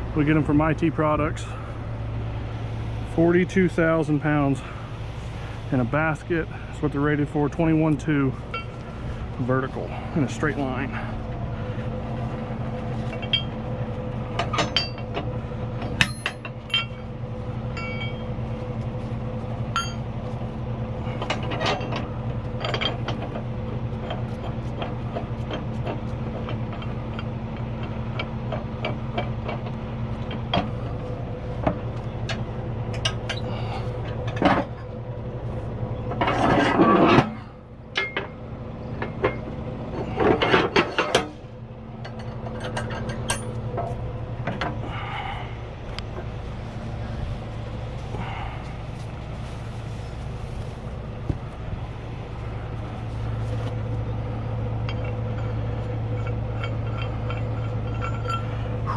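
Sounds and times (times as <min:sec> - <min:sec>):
truck engine idling: 0:00.0 - 0:58.9
metal shackles clinking: 0:07.6 - 0:09.1, 0:09.8 - 0:20.4, 0:21.0 - 0:35.0, 0:36.1 - 0:58.9.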